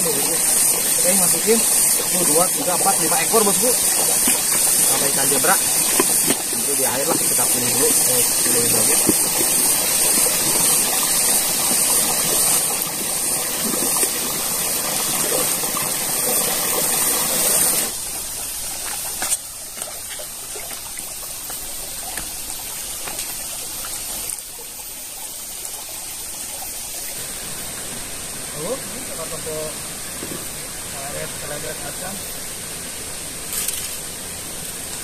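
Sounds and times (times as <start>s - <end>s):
stream trickling over stones: 0.0s - 35.0s.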